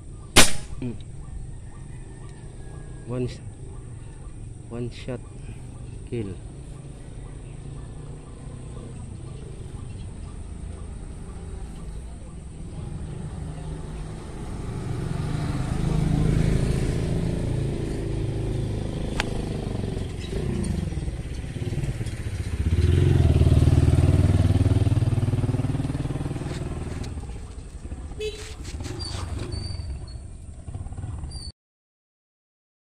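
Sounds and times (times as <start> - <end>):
vehicle engine running: 1.0 - 31.4.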